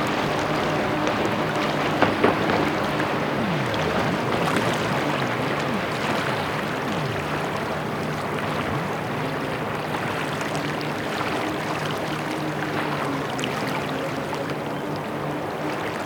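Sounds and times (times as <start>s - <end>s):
low engine hum: 0.0s - 16.0s
rushing rain or water: 0.0s - 16.0s.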